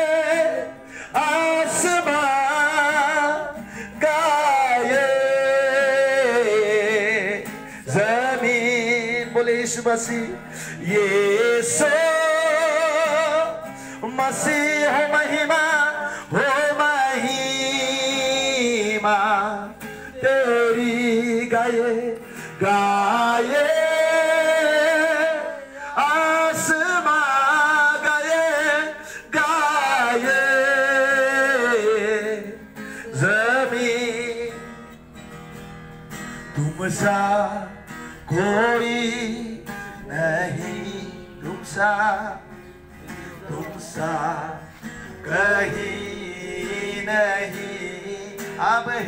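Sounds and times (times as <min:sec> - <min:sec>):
man singing: 0:00.0 - 0:35.0, 0:36.5 - 0:49.0
acoustic guitar strumming: 0:00.0 - 0:49.0.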